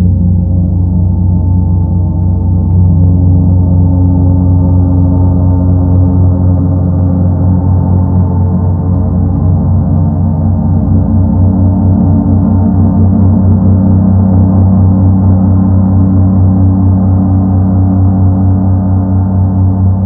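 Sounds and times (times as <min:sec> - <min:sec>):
gong rumbling: 0:00.0 - 0:20.0.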